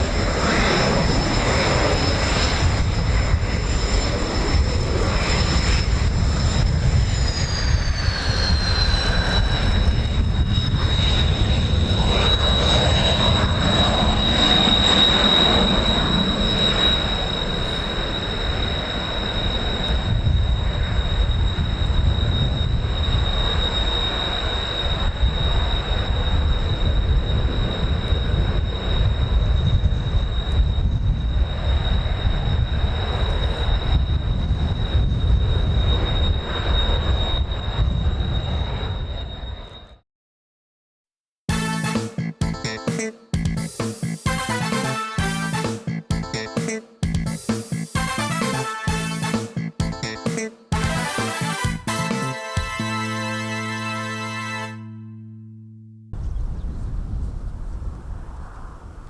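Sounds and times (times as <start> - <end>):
jet engines whining: 0.0 - 39.9, 41.5 - 54.9.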